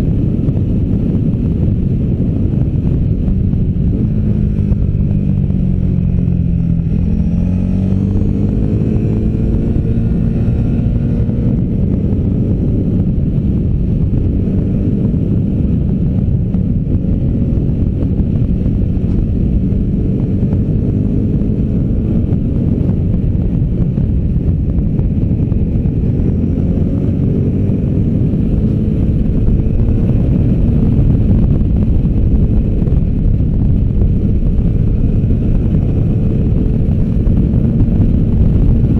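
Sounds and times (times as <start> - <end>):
motorcycle engine revving: 0.0 - 38.9
wind and road noise rumble: 0.0 - 38.9.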